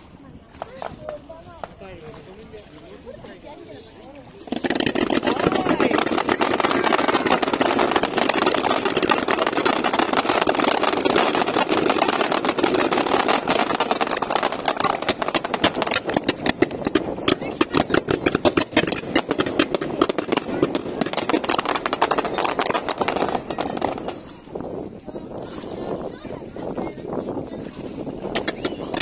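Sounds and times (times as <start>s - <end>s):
fireworks bangs and crackle: 0.0s - 2.2s, 3.9s - 29.0s.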